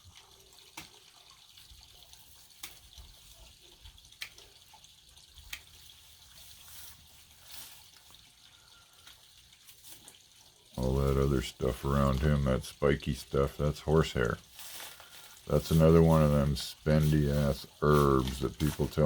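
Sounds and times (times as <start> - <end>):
water trickling into pond: 0.0 - 19.0.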